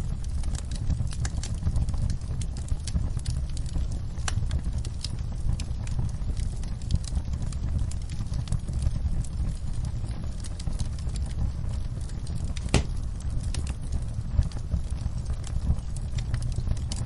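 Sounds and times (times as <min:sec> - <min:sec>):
low steady fire rumble: 0:00.0 - 0:17.0
wood fire crackling: 0:00.0 - 0:17.0.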